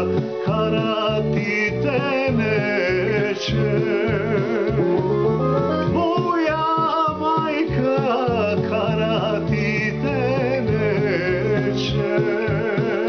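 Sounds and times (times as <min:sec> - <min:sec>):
man singing folk song: 0:00.0 - 0:13.0.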